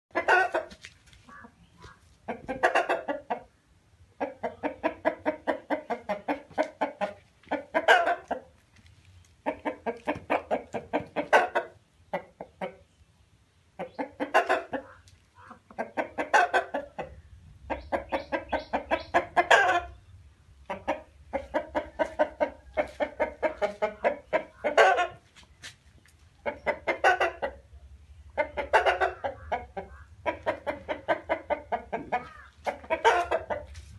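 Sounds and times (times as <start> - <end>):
chickens clucking: 0.1 - 33.9.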